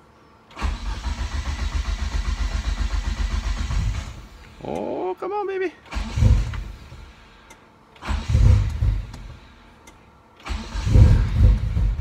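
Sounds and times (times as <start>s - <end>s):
engine cranking without starting: 0.5s - 4.8s, 5.8s - 12.0s.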